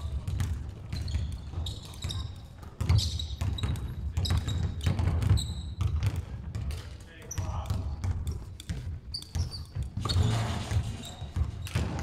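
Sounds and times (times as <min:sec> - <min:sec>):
shoes squeaking on floor: 0:00.0 - 0:06.4, 0:07.2 - 0:12.0
basketball dribbling on wooden floor: 0:00.0 - 0:12.0.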